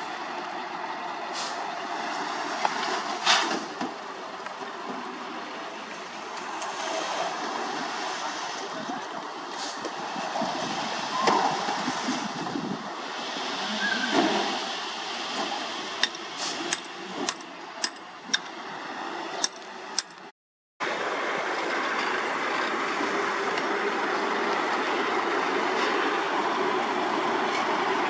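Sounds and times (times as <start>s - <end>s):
dump truck engines running: 0.0s - 28.0s.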